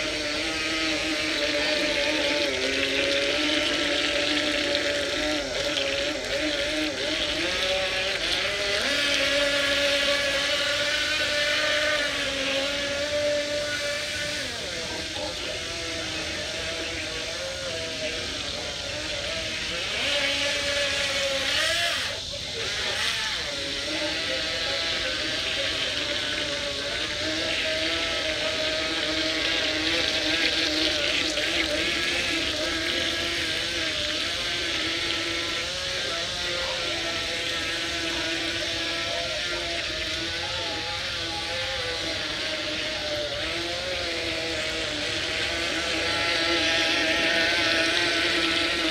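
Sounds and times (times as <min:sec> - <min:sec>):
model boat motor whining: 0:00.0 - 0:48.9
water hiss from wake: 0:00.0 - 0:48.9.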